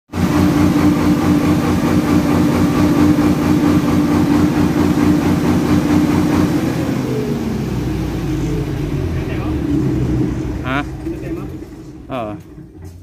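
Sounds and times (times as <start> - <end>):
diesel generator running: 0.1 - 13.0.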